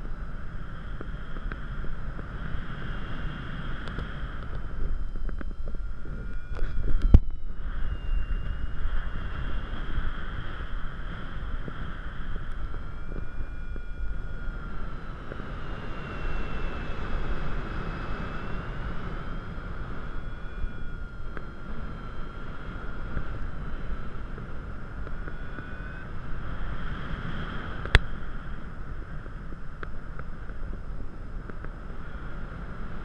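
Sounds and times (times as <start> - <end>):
wind buffeting microphone: 0.0 - 33.0
faint wavering whistle: 0.1 - 33.0.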